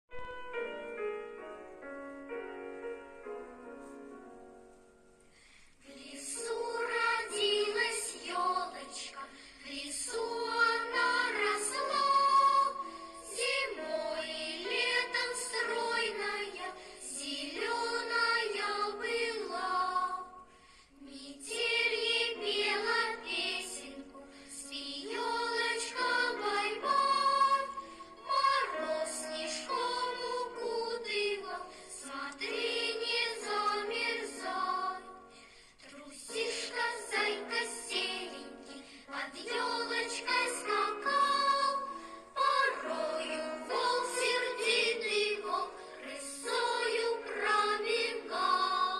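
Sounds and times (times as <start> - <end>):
song with high singing voice: 5.0 - 48.9.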